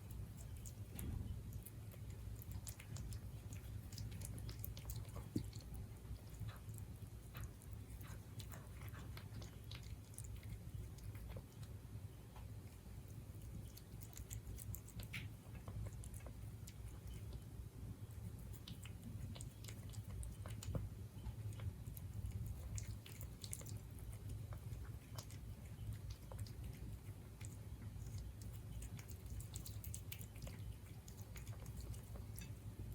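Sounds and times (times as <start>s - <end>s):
cat chewing food: 0.0s - 32.9s
steady low hum: 0.0s - 32.9s.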